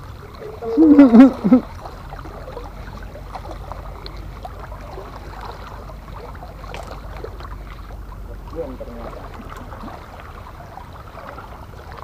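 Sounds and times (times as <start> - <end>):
water lapping against rocks: 0.0 - 12.0
wind: 0.0 - 12.0.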